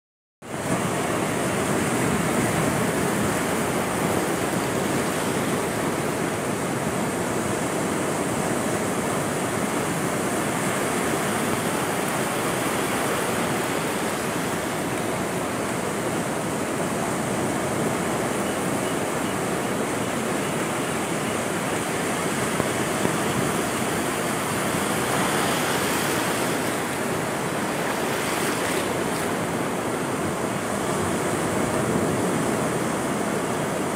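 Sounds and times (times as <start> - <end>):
surf breaking on sandy beach: 0.4 - 33.9.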